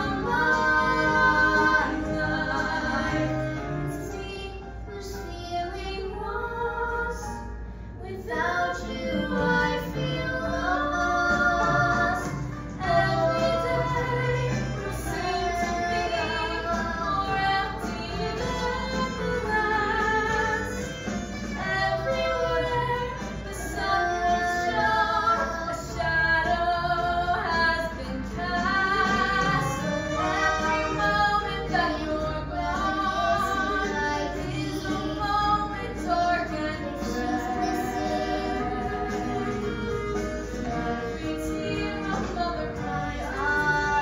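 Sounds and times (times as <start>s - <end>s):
woman singing: 0.0s - 7.4s, 8.0s - 44.0s
instrumental accompaniment: 0.0s - 44.0s.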